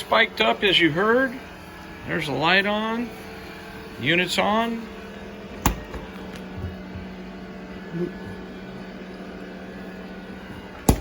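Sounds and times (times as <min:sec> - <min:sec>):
generator humming: 0:00.0 - 0:11.0.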